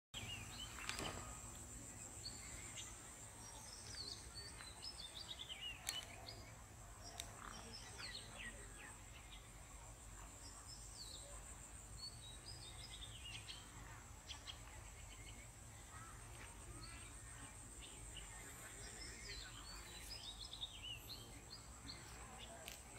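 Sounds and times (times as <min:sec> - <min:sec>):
birds chirping: 0:00.1 - 0:22.9
insect drone: 0:00.2 - 0:22.9.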